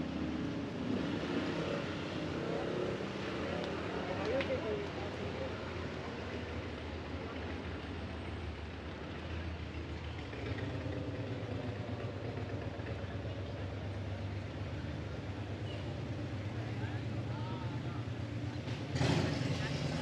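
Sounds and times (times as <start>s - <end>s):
low hum of motor traffic: 0.0s - 20.0s.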